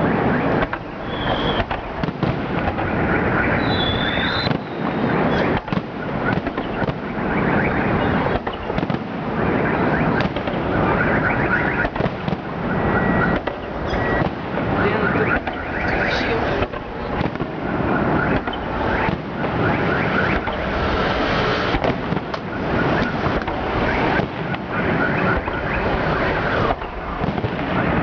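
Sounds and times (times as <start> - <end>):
fireworks bangs: 0.0 - 28.0
fireworks crackle: 0.0 - 28.0
fireworks whistle: 0.0 - 28.0.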